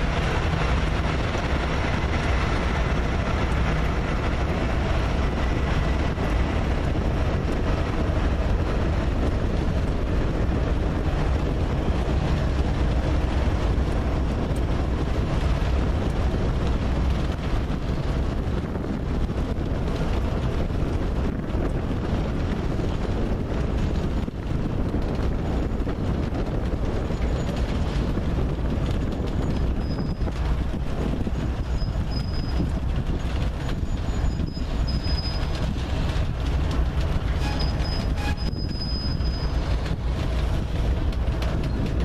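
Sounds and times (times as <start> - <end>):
freight train wheels rumbling: 0.0 - 42.0
wind on microphone: 0.0 - 42.0.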